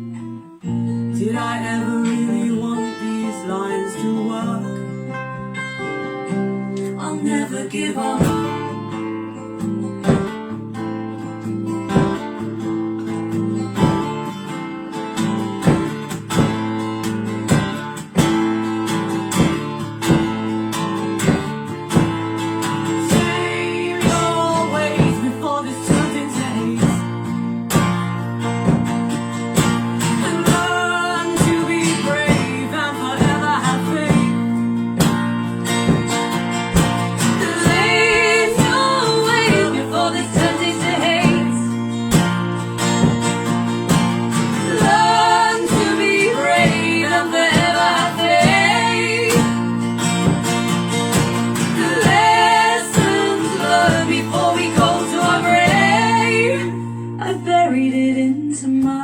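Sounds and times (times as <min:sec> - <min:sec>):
acoustic guitar strumming: 0:00.0 - 0:58.9.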